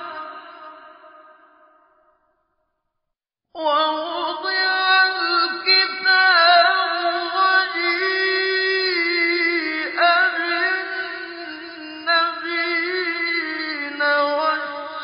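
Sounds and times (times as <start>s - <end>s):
man chanting melodically: 0.0s - 1.2s, 3.8s - 15.0s.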